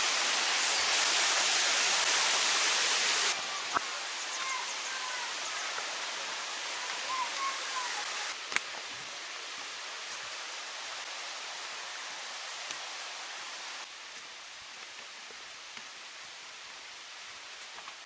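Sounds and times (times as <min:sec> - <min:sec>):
rushing mountain stream: 0:00.0 - 0:18.0.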